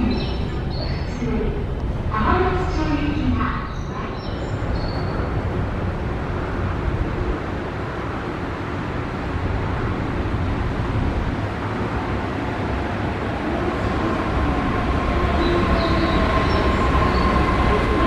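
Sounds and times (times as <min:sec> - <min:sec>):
train rumbling through tunnel: 0:00.0 - 0:18.0.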